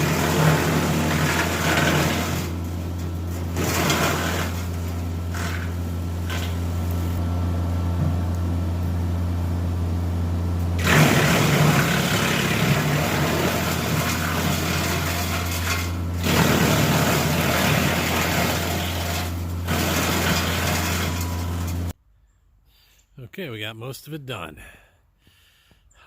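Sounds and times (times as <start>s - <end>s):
wood chipper droning: 0.0s - 22.0s.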